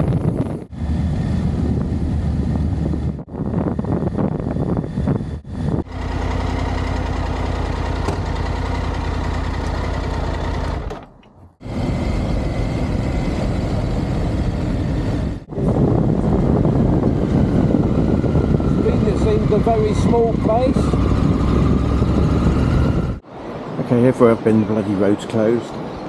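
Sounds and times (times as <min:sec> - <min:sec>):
motorcycle engine running: 0:00.0 - 0:11.0, 0:11.6 - 0:23.2
wind and road noise: 0:00.0 - 0:26.0.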